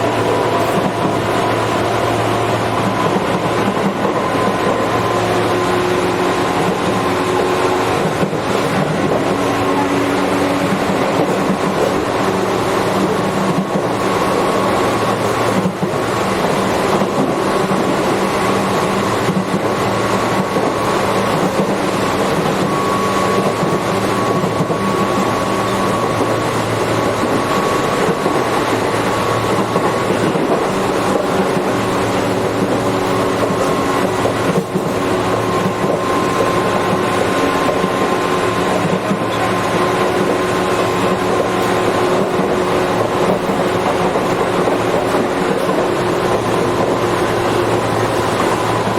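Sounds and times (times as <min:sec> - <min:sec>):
train motor whine: 0:00.0 - 0:48.9
train wheels rumbling on rail: 0:00.0 - 0:48.9.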